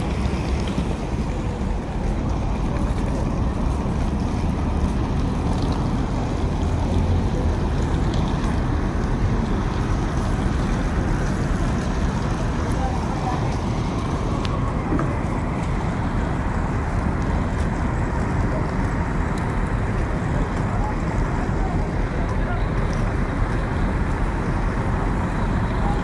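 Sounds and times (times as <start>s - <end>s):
suitcases rolling over pavement: 0.0s - 26.0s.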